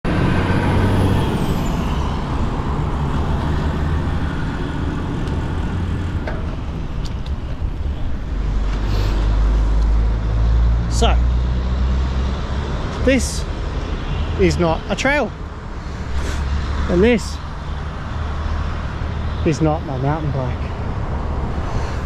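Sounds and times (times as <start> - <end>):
motorway traffic noise: 0.0 - 22.0.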